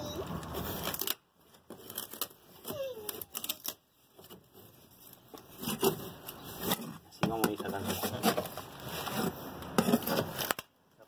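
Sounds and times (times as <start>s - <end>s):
fiberglass crackling as it tears: 0.4s - 10.8s.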